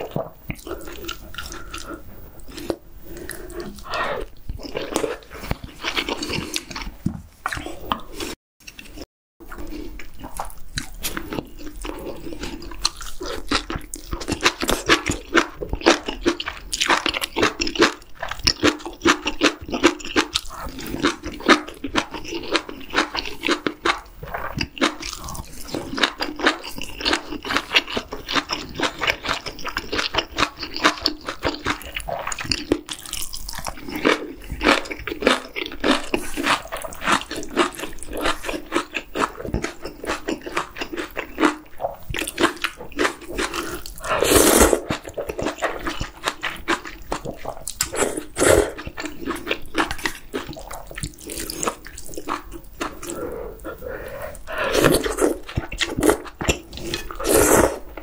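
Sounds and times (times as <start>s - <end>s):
wet chewing and smacking: 0.0s - 58.0s.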